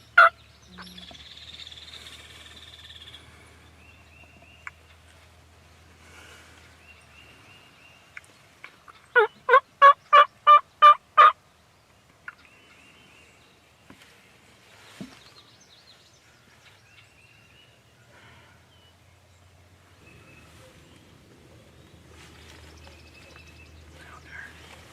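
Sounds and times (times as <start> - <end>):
faint birdsong: 0.0 - 24.9.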